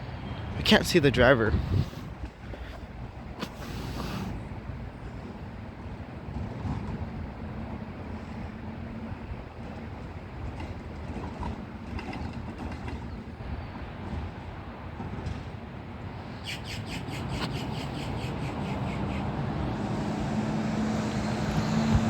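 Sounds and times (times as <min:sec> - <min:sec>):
garbage truck engine: 0:00.0 - 0:22.0.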